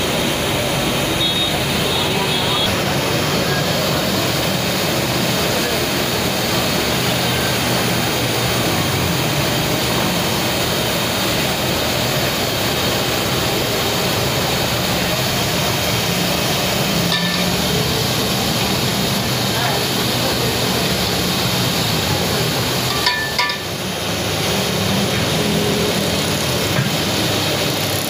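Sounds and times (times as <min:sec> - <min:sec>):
loud rushing noise: 0:00.0 - 0:28.0.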